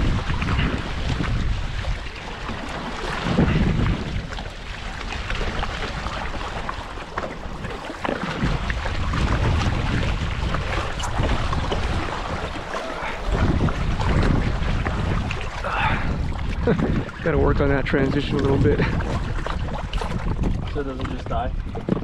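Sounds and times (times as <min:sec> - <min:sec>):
water splashing along hulls: 0:00.0 - 0:22.0
wind buffeting microphone: 0:00.0 - 0:22.0.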